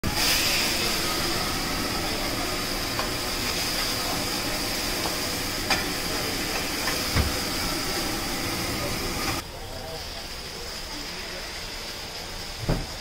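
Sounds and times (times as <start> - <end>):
flames flaring up: 0.0 - 13.0
gas burner hissing: 0.0 - 13.0.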